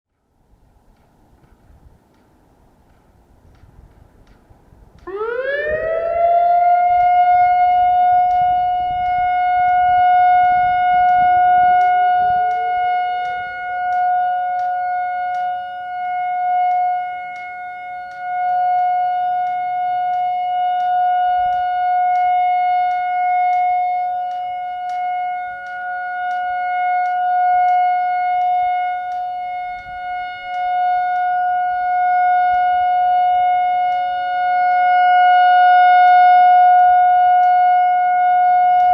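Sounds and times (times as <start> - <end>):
electronic warning siren: 5.0 - 38.9
lower siren tone sliding up: 5.0 - 38.9.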